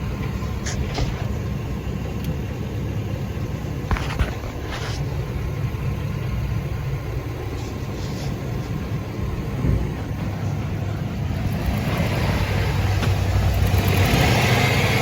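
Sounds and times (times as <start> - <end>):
van engine running: 0.0 - 15.0.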